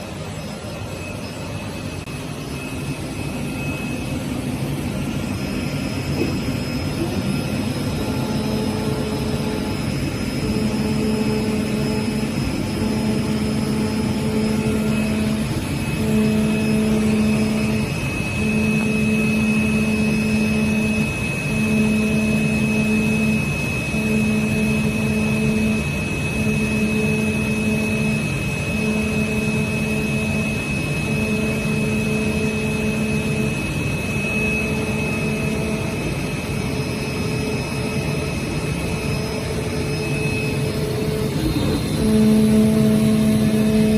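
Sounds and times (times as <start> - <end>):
cutting machine whine: 0.0 - 43.9
low motor hum: 0.0 - 43.9.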